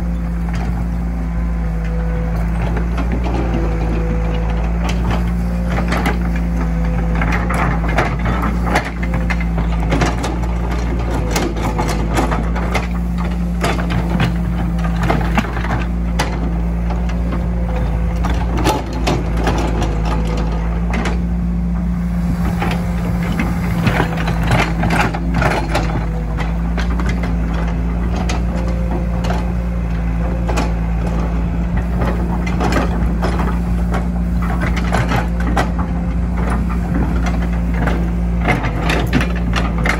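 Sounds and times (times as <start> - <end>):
excavator bucket knocking and clattering: 0.0 - 39.9
excavator diesel engine running: 0.0 - 39.9.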